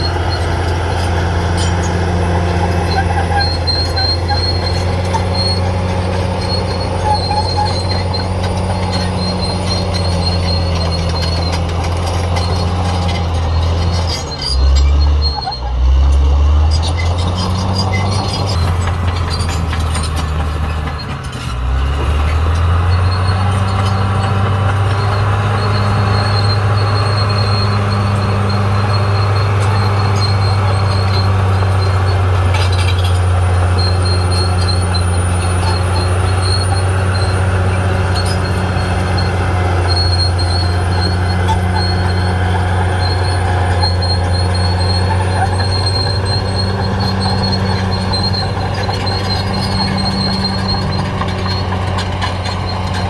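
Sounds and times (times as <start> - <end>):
bulldozer diesel engine running: 0.0 - 53.0
high-pitched squeal from tracks: 0.0 - 53.0.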